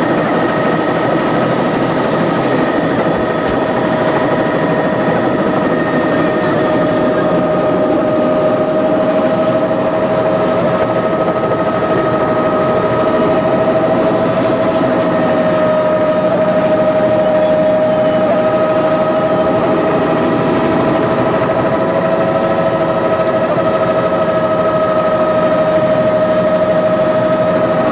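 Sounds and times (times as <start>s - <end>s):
helicopter whine and rotor noise: 0.0s - 27.9s.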